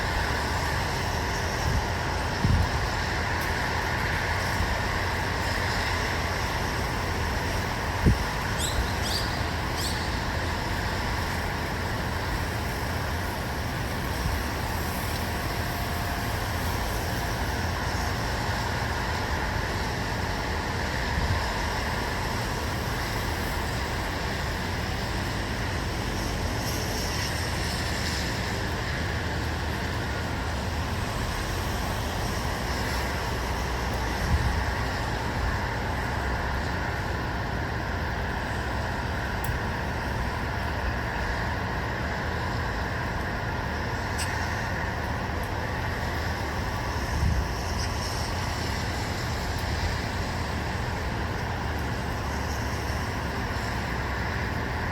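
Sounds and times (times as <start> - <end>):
distant road traffic: 0.0 - 54.9.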